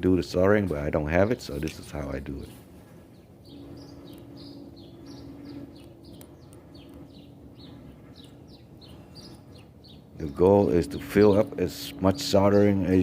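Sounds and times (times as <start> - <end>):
faint hum: 0.0 - 13.0
songbird chirping: 0.3 - 13.0.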